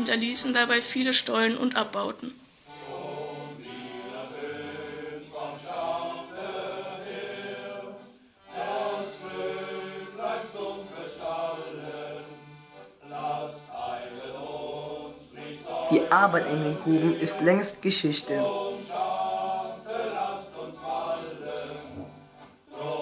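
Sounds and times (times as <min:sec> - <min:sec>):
men's choir singing: 0:02.9 - 0:23.0.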